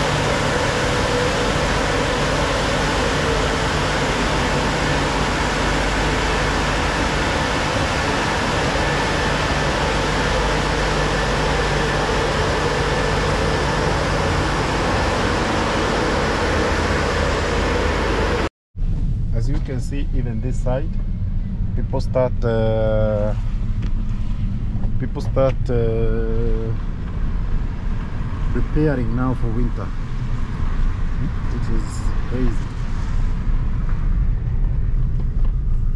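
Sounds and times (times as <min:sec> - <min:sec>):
drying blowers rushing air: 0:00.0 - 0:35.9
faint hum: 0:00.0 - 0:35.9.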